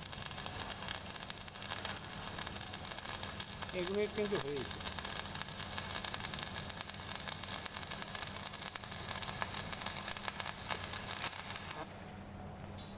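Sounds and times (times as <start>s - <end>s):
welding arc crackling and sizzling: 0.0s - 12.2s.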